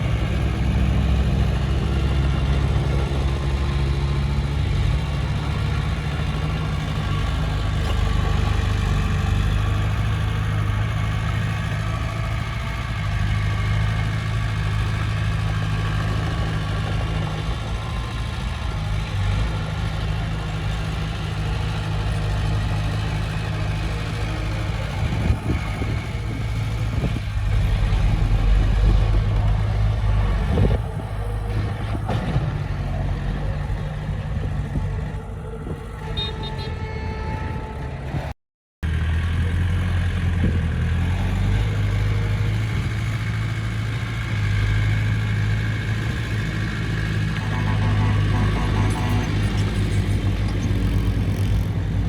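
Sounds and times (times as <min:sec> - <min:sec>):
diesel machinery engine drone: 0:00.0 - 0:52.0.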